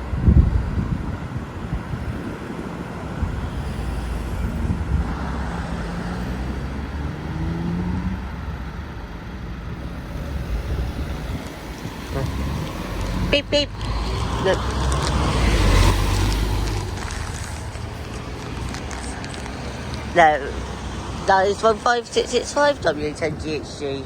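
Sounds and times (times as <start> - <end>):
road noise: 0.0 - 24.0
vehicle engine running: 0.7 - 24.0.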